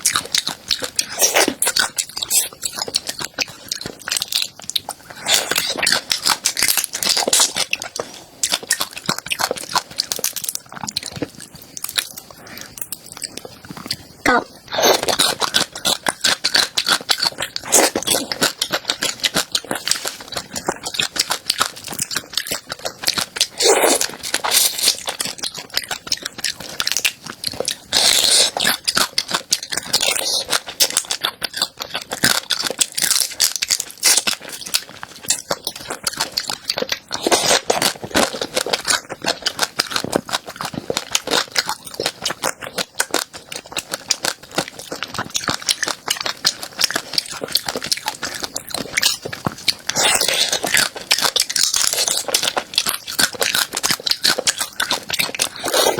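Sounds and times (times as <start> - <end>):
chewing crunchy food: 0.0 - 55.9.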